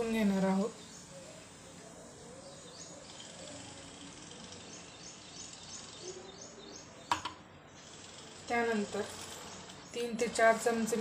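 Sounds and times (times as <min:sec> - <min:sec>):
background hiss: 0:00.0 - 0:11.0
bird chirping: 0:00.0 - 0:11.0.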